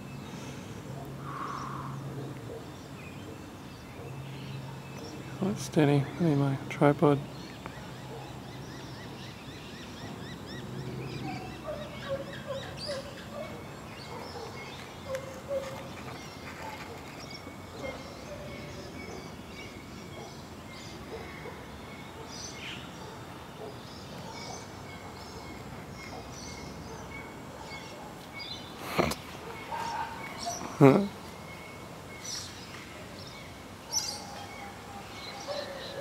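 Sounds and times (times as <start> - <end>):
lower warbling bird calls: 1.1 - 6.3, 7.2 - 36.0.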